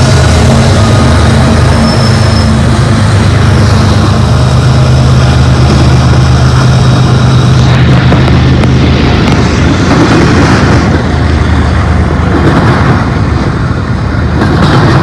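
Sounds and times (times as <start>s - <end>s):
locomotive engines droning: 0.0s - 15.0s
wheels on rail: 0.0s - 15.0s.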